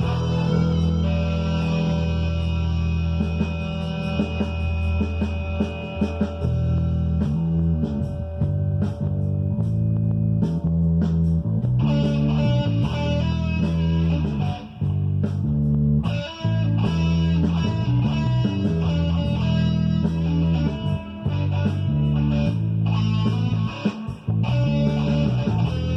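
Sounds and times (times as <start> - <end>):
bass line: 0.0 - 25.9
electric guitar playing: 0.0 - 25.9
rock backing track: 0.0 - 25.9.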